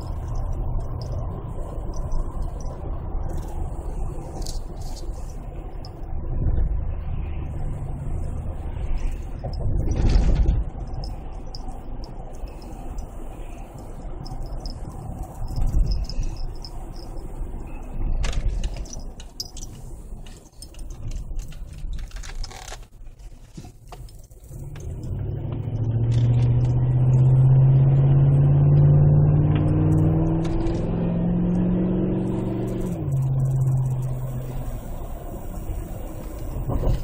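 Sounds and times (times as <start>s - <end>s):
truck exhaust accelerating: 0.0s - 20.2s, 24.4s - 37.0s.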